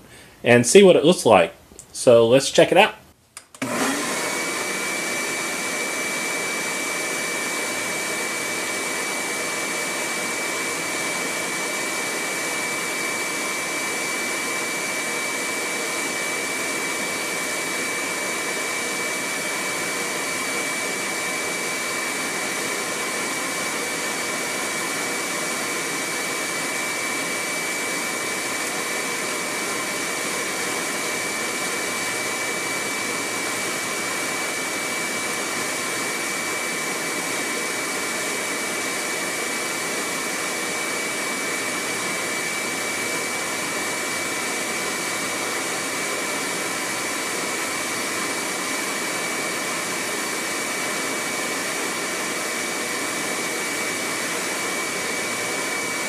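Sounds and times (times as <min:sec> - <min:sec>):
dust collector running: 0:03.6 - 0:56.0.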